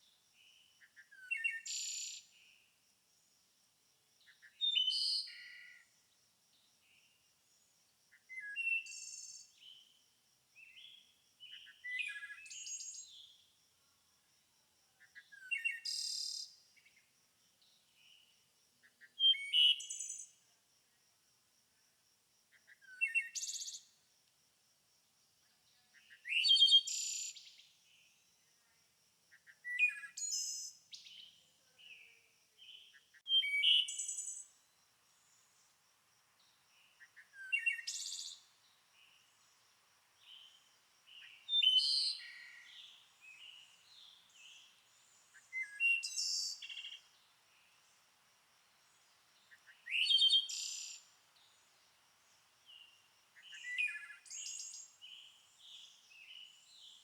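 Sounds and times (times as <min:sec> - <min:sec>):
songbird singing: 0:00.0 - 0:02.8, 0:04.2 - 0:13.6, 0:14.9 - 0:20.5, 0:22.5 - 0:24.0, 0:25.4 - 0:28.7, 0:29.3 - 0:57.0.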